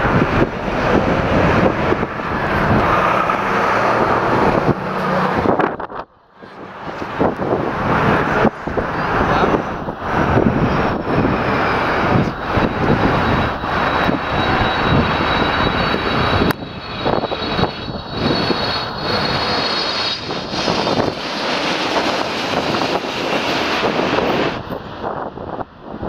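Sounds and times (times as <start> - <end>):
jet engines roaring overhead: 0.0 - 26.0.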